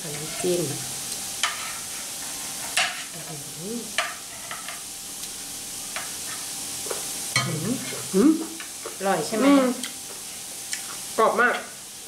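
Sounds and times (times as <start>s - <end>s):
squid sizzling on electric grill: 0.0s - 12.0s.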